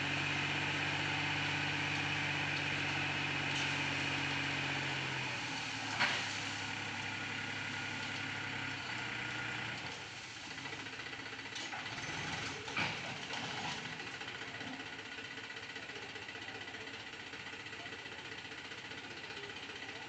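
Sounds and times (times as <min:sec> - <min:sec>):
tractor diesel engine drone: 0:00.0 - 0:20.0.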